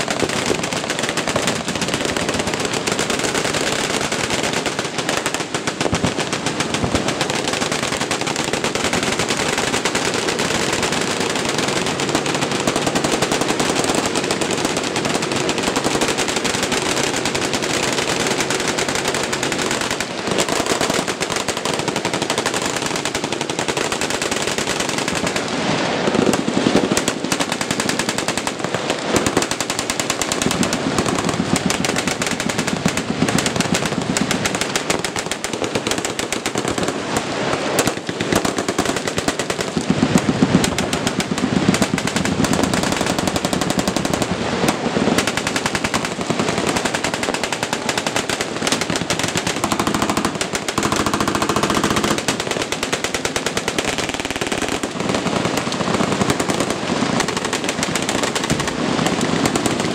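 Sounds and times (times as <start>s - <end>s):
machine guns firing full-auto: 0.0s - 59.9s.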